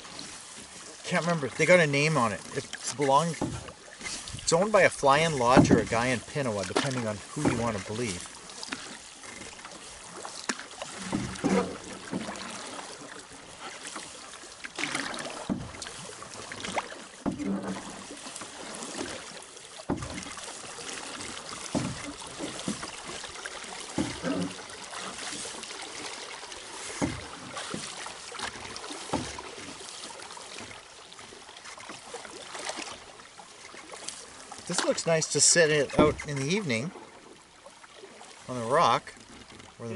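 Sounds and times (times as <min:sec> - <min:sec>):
water washing: 0:00.0 - 0:37.3
paddle splashing in water: 0:00.0 - 0:39.9
wind: 0:00.0 - 0:39.9.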